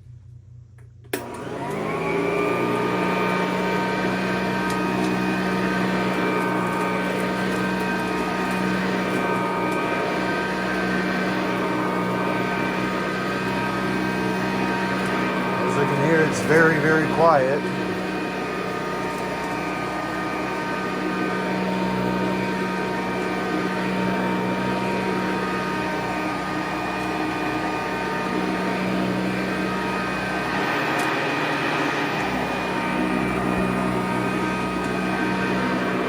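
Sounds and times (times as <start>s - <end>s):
vacuum cleaner motor hum: 0.0s - 36.0s.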